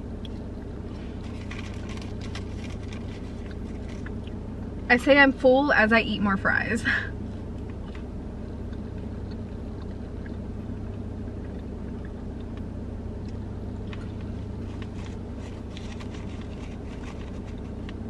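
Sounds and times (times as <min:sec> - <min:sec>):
low hum inside car cabin: 0:00.0 - 0:18.0.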